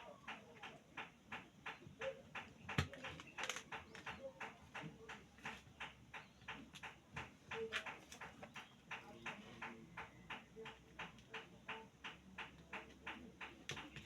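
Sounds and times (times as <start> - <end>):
faint regular ticking: 0.0 - 14.0.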